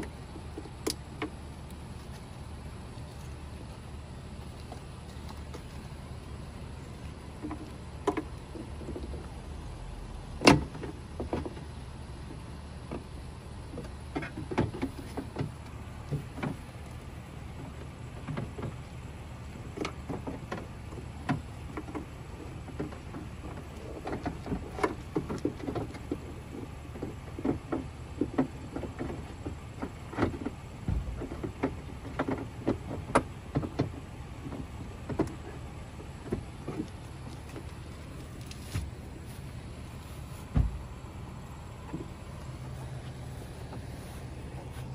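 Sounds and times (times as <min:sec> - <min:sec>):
low background rumble: 0:00.0 - 0:44.9.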